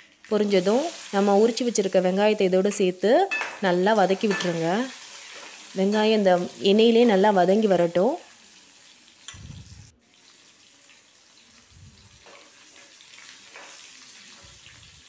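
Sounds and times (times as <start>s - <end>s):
shallots sizzling in oil: 0.0s - 15.0s.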